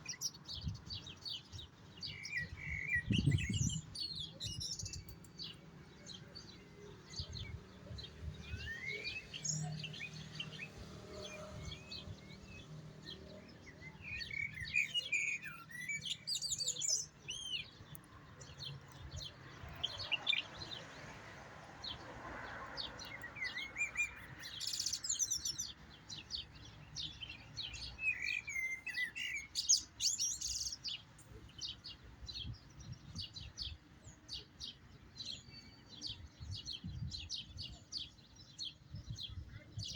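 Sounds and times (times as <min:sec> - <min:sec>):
goldfinch twittering and chirping: 0:00.0 - 0:21.0, 0:22.8 - 0:39.9.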